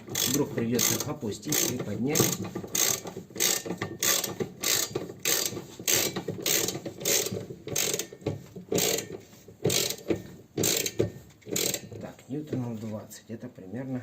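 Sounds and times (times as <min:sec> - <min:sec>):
ratchet wrench clicking: 0:00.1 - 0:12.0.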